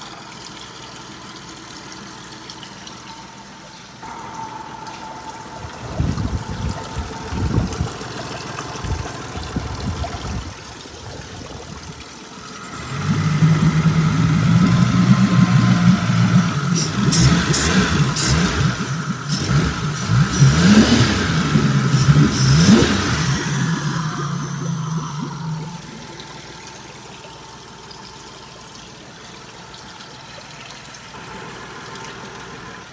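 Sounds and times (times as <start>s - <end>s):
outboard motor running: 0.0s - 32.9s
water trickling and splashing: 0.0s - 32.9s.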